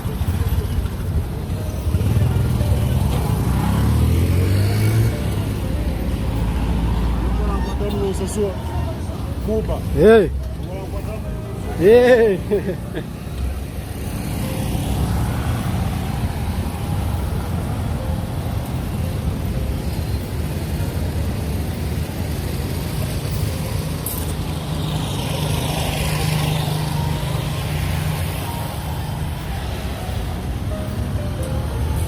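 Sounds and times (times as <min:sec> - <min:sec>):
passing vehicle engine: 0:00.0 - 0:32.0
traffic rumble: 0:00.0 - 0:32.0.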